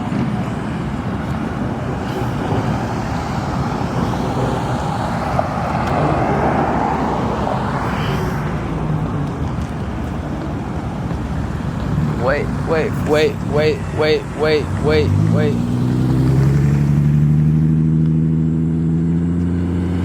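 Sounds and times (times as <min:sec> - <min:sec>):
street traffic noise: 0:00.0 - 0:20.0
vehicle passing: 0:01.0 - 0:19.3.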